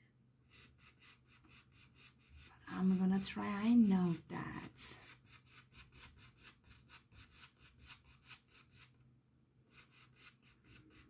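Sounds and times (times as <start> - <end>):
paintbrush scrubbing canvas: 0.4 - 9.0, 9.7 - 11.0.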